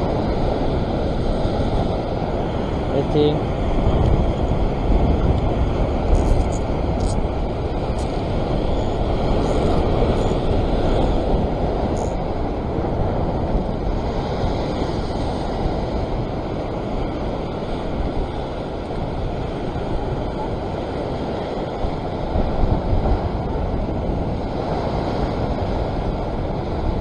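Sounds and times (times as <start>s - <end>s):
ocean surf against rocks: 0.0s - 27.0s
wind buffeting microphone: 0.0s - 27.0s.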